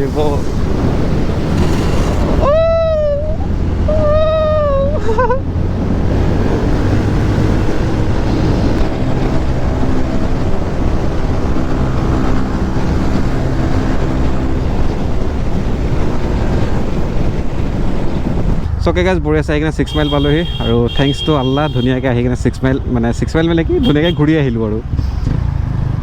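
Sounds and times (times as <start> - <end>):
motorcycle engine cruising: 0.0 - 18.9, 20.0 - 26.0
wind rushing over microphone: 0.0 - 26.0.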